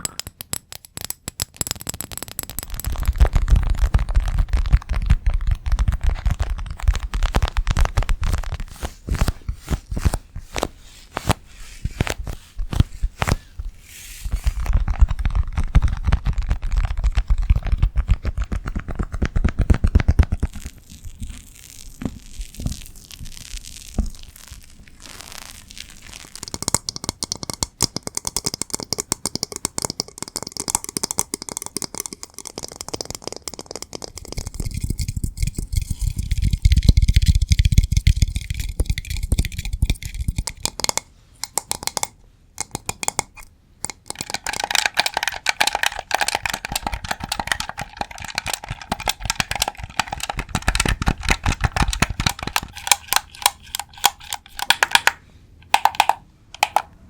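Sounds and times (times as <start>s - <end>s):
tapping and scratching on objects: 0.0s - 21.4s, 26.4s - 56.9s.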